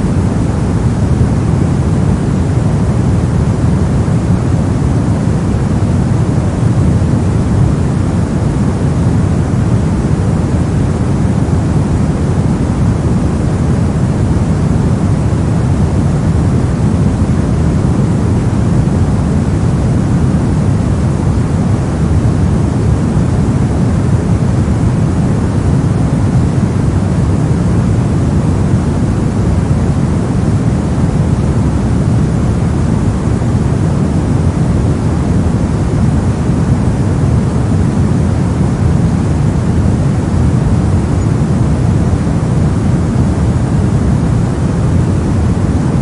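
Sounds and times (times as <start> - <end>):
brown noise: 0.0 - 46.0.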